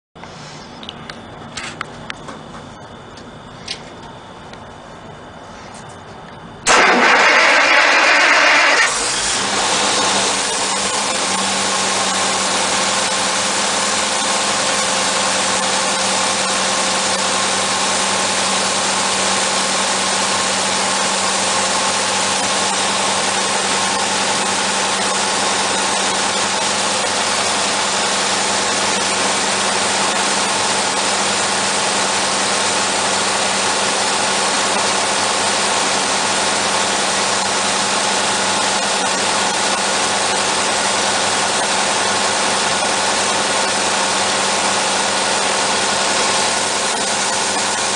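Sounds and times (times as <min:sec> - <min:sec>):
engine starting and running: 0:06.6 - 0:47.9.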